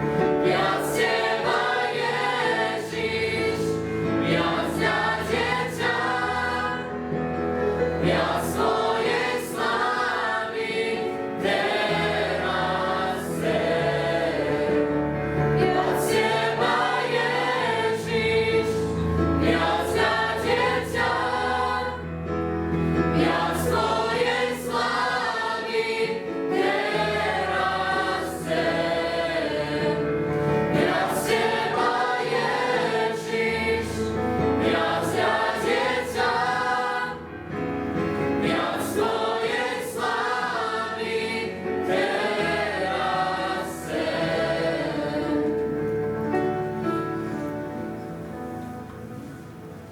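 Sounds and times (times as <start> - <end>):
youth choir singing: 0.0 - 47.0.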